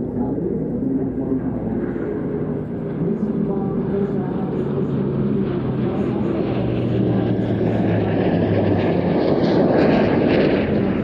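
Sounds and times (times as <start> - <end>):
rushing jet engine noise: 0.0 - 11.0
turboprop engines droning: 0.0 - 11.0.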